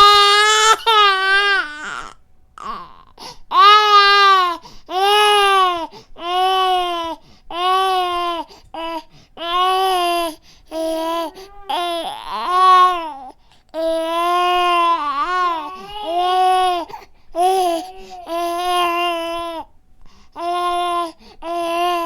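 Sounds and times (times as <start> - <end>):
baby crying: 0.0 - 19.7, 20.4 - 22.0.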